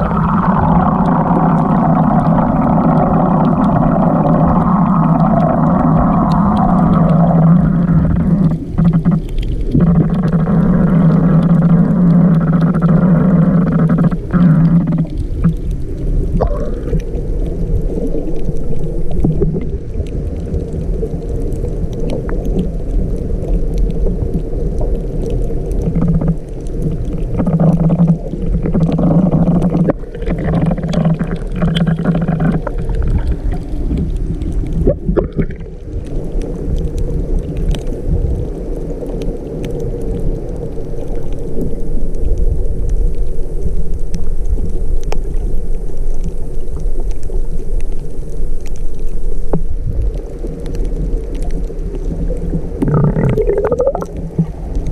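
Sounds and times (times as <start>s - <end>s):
bubbling: 0.0s - 54.9s
low underwater hum: 0.0s - 54.9s.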